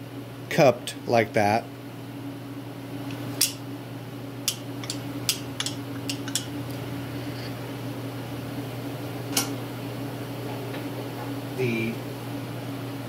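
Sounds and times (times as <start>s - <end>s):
heater humming: 0.0s - 13.0s.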